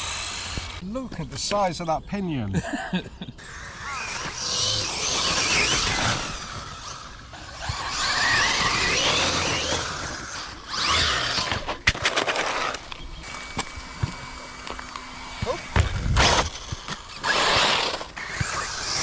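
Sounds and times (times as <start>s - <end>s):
remote control car motor whine: 0.0s - 0.8s, 3.4s - 19.0s
tyre and ground noise: 0.0s - 19.0s.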